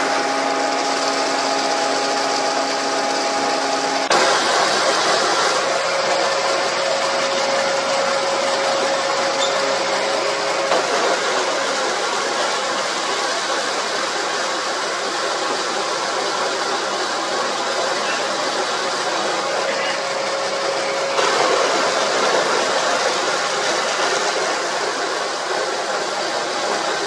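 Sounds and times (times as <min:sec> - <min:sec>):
machine whine: 0:00.0 - 0:27.0.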